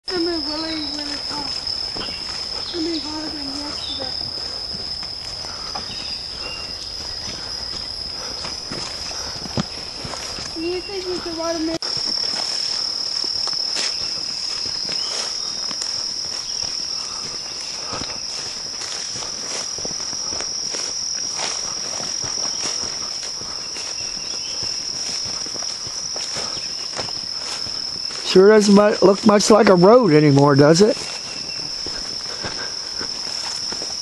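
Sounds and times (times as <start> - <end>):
high-pitched insect chorus: 0.0 - 34.0
footsteps swishing through grass: 0.6 - 28.8, 30.8 - 34.0.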